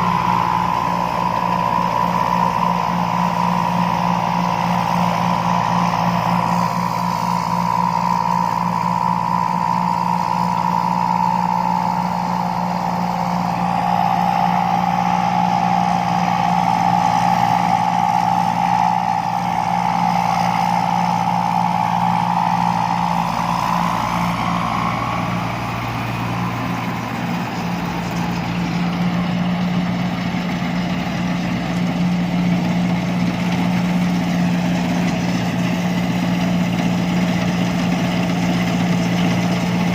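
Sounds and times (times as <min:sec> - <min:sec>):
diesel engine running: 0:00.0 - 0:39.9
high machine whine: 0:00.0 - 0:39.9.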